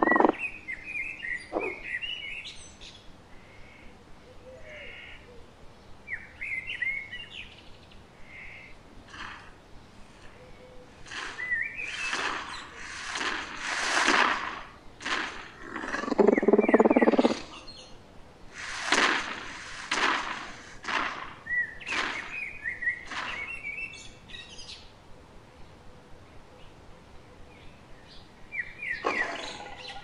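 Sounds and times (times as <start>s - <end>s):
birds chirping: 0.0s - 3.1s, 5.9s - 13.7s, 14.5s - 18.1s, 18.8s - 25.8s, 26.5s - 30.0s.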